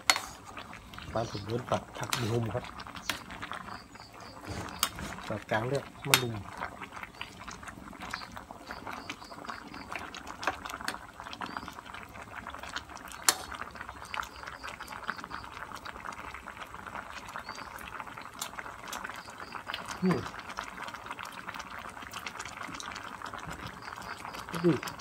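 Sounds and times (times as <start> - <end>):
curry bubbling at a boil: 0.0 - 25.0.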